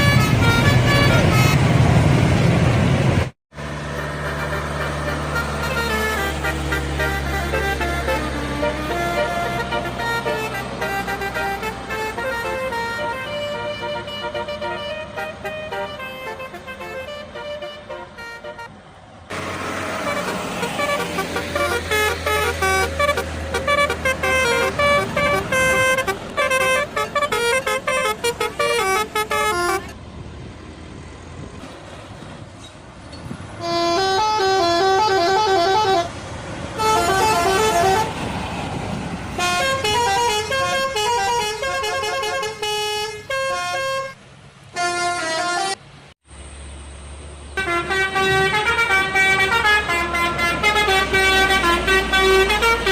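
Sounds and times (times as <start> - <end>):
multi-note bus air horns: 0.0 - 1.9, 3.7 - 18.7, 19.3 - 30.0, 33.6 - 38.5, 39.3 - 46.0, 47.6 - 52.9
bus engine: 0.0 - 52.9
traffic noise: 0.0 - 52.9.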